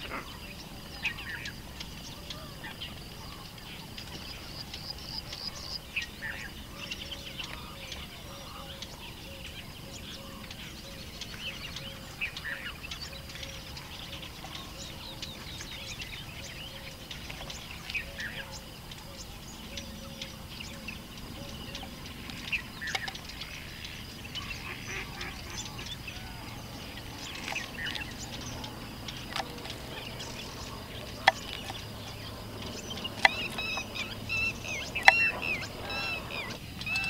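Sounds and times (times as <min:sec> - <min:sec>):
birds chirping and trilling: 0:00.0 - 0:37.0
soft low bird call: 0:00.0 - 0:37.0.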